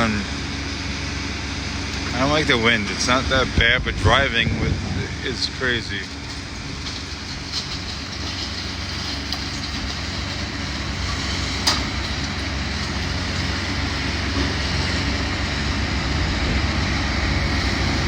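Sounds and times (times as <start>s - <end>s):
heavy demolition machinery running: 0.0s - 18.0s
wind buffeting microphone: 2.2s - 11.0s, 11.9s - 18.0s.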